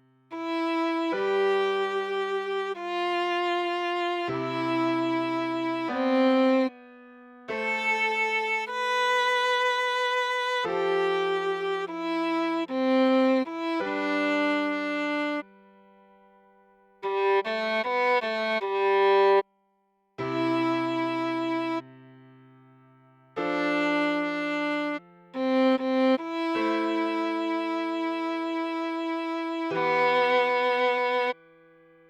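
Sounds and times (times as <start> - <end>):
viola playing slow melody: 0.0 - 16.1, 17.0 - 19.5, 20.2 - 22.0, 23.4 - 31.6.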